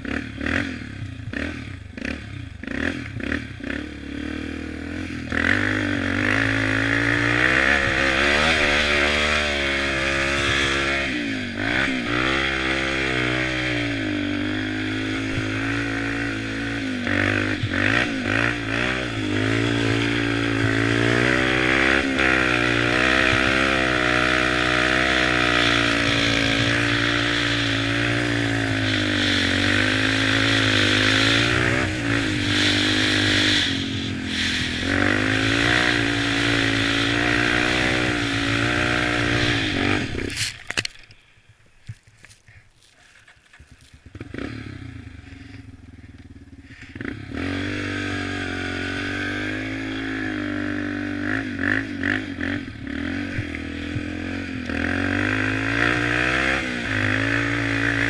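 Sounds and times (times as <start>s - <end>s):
quad bike engine revving: 0.0s - 41.4s, 43.6s - 58.0s.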